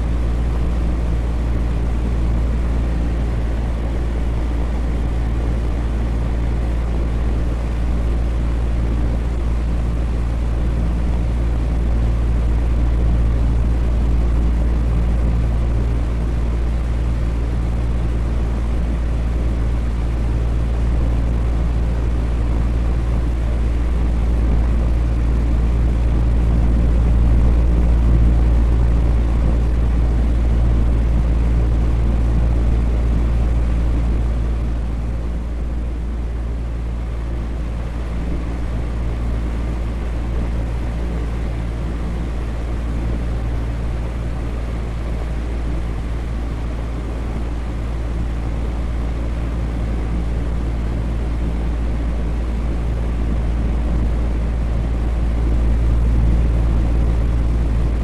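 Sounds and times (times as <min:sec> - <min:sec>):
electric fan humming: 0:00.0 - 0:58.0.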